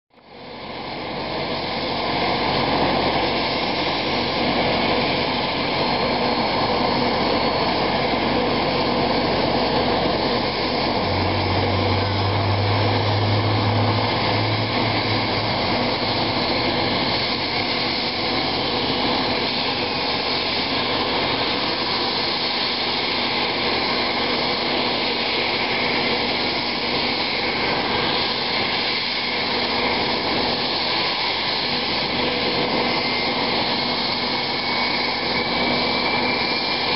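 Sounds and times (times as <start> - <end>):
helicopter turbine engines whining: 0.2 - 36.9
low drone: 0.5 - 36.9.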